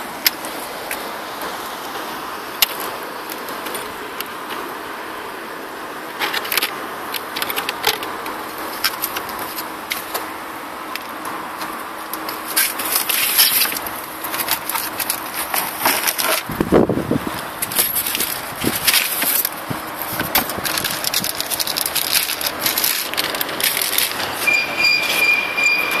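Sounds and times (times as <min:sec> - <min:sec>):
traffic hum: 0:00.0 - 0:26.0.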